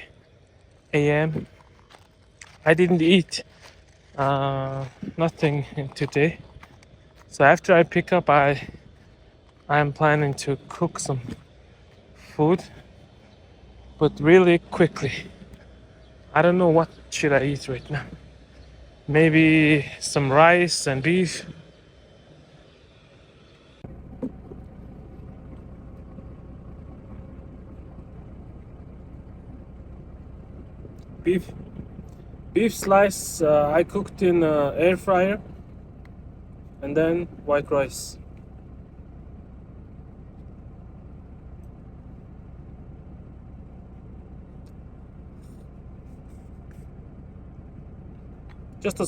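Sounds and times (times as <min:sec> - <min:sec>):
truck engine rumbling: 0:00.0 - 0:49.0.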